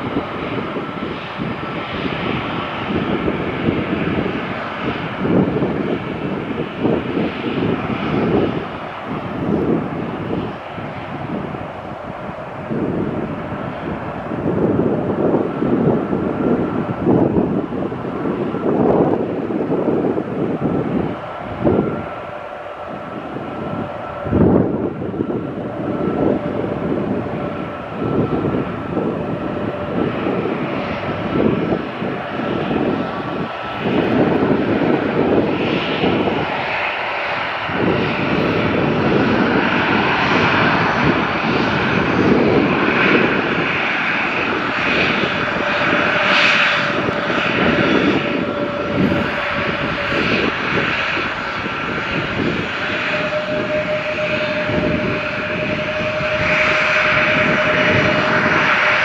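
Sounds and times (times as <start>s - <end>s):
airliner engines rumbling: 0.0s - 59.0s.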